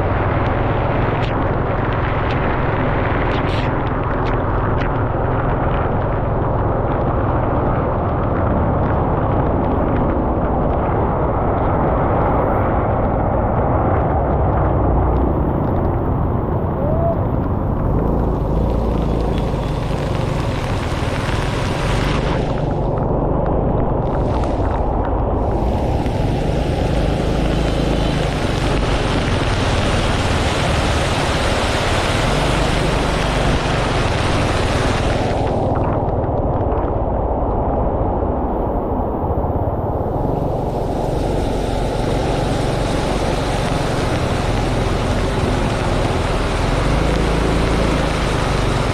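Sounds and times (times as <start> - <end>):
wind and road noise: 0.0 - 48.9.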